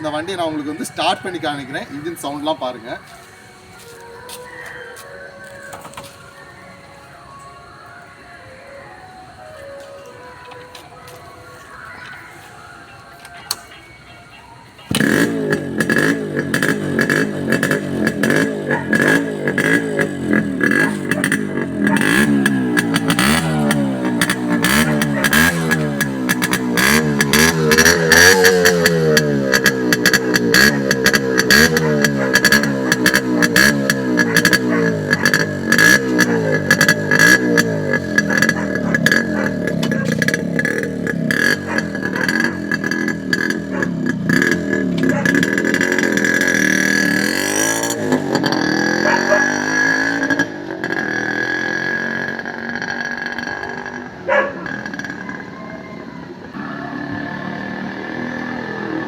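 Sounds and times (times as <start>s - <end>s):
motorcycle engine revving: 0.0s - 8.1s, 11.6s - 59.0s.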